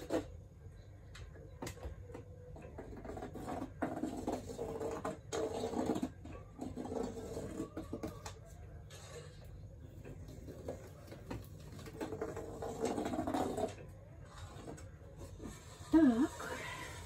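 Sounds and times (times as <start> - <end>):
pencil scratching on a wall: 0.0 - 0.6, 2.6 - 17.0.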